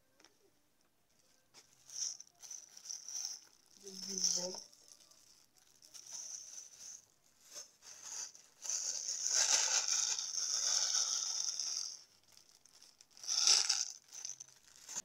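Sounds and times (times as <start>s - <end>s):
plastic packaging crinkling: 1.6s - 15.0s.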